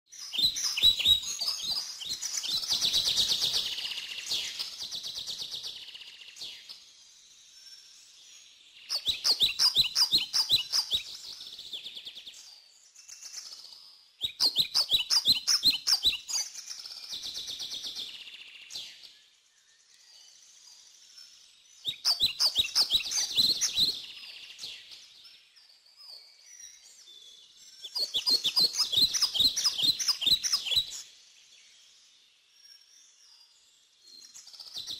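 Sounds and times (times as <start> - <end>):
songbird chirping: 0.1 - 34.9.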